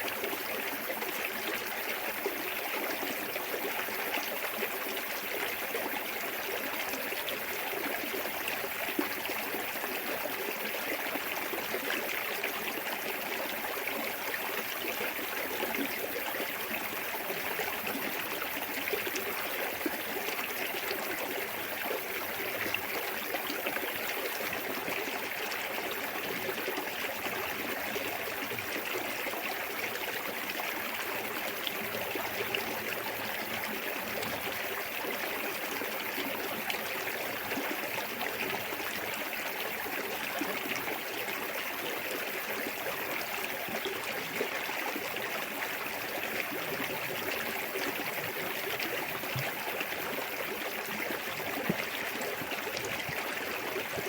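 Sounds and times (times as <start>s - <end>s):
stream water rushing and splashing: 0.0s - 54.0s.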